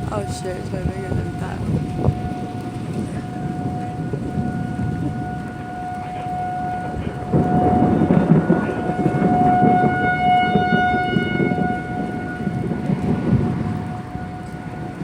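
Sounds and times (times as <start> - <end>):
warning siren wailing: 0.0 - 15.0
wind and rain rushing: 0.0 - 15.0.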